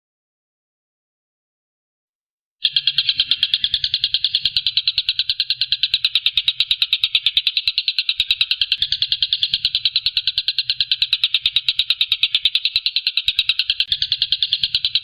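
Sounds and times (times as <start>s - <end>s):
kingfisher rattling trill: 2.6s - 15.0s.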